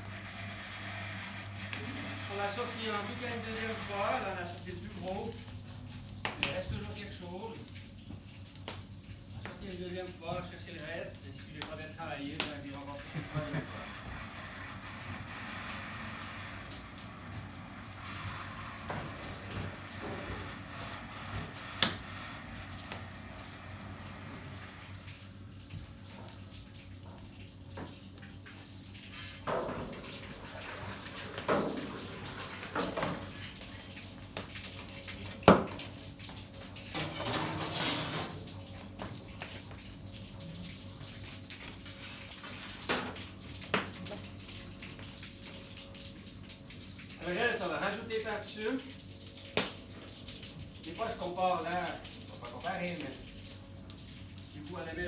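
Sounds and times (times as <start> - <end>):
liquid splashing and trickling: 0.0 - 55.0.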